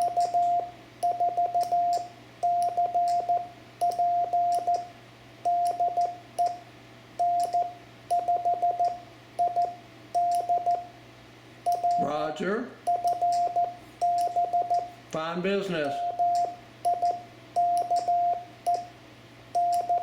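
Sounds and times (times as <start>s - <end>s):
morse code beeps: 0.0s - 4.9s, 5.5s - 6.6s, 7.2s - 10.9s, 11.7s - 12.2s, 12.9s - 15.0s, 15.7s - 18.9s, 19.6s - 20.0s.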